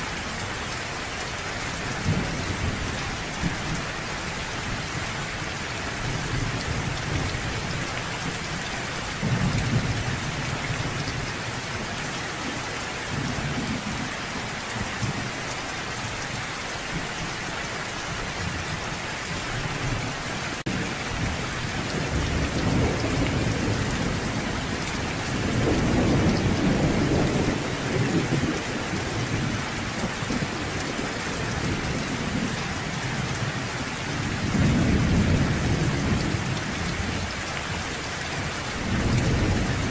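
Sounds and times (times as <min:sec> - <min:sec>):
low thunder rumbling: 0:00.0 - 0:17.3, 0:18.2 - 0:39.9
rain falling: 0:00.0 - 0:39.9.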